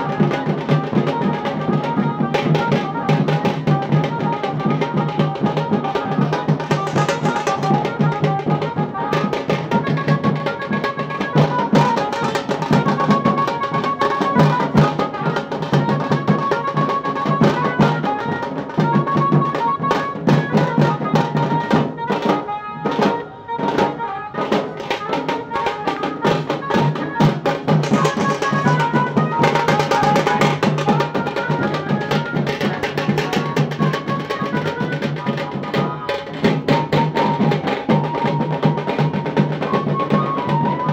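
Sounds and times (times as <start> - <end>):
drums played with sticks: 0.0 - 40.9.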